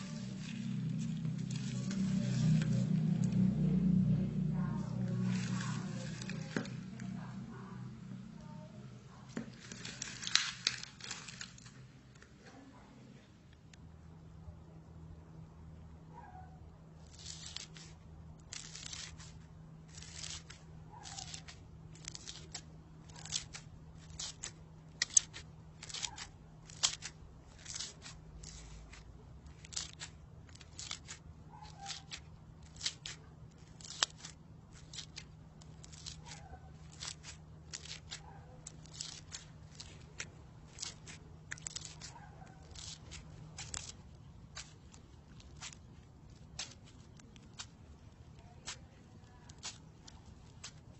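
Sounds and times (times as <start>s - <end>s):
crunchy slime crackling: 0.0s - 8.6s, 9.2s - 12.6s, 17.0s - 50.9s
faint steady hum: 0.0s - 50.9s.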